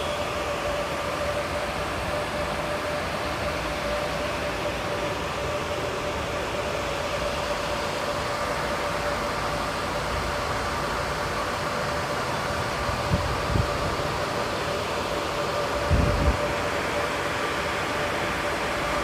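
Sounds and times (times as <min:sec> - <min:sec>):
machine whir with hum: 0:00.0 - 0:19.0.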